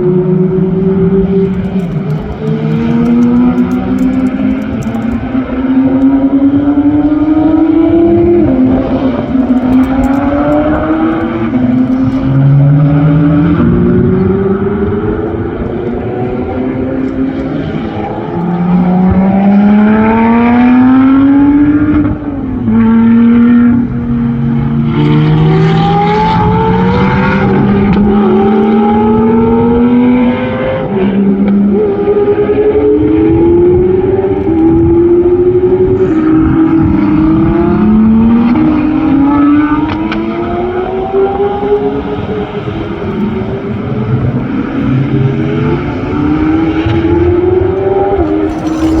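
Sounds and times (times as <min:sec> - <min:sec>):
car engine accelerating hard: 0:00.0 - 0:49.0.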